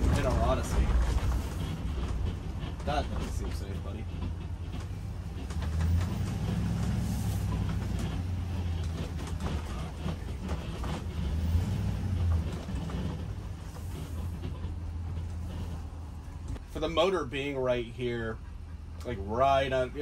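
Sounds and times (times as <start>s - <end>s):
motorhome engine droning: 0.0s - 20.0s
road noise: 0.0s - 20.0s.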